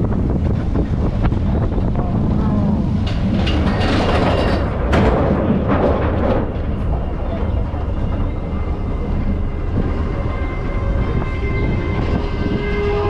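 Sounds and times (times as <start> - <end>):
track clicks and knocks: 0.0 - 11.4
roller coaster rumbling on track: 0.0 - 13.0
wind buffeting microphone: 0.0 - 13.0.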